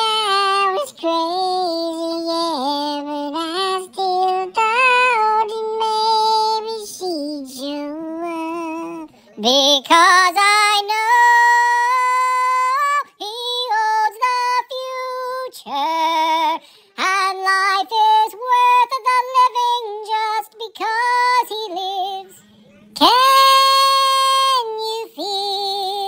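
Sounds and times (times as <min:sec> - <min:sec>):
high-pitched singing voice: 0:00.0 - 0:26.0.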